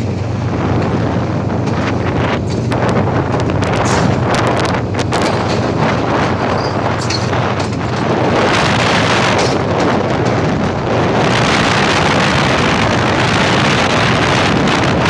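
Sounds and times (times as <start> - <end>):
train rumbling along track: 0.0 - 15.0
wind buffeting microphone: 0.0 - 15.0.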